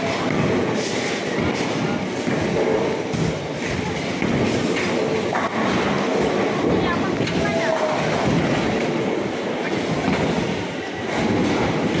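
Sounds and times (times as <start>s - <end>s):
bowling balls rumbling down lanes: 0.0s - 12.0s.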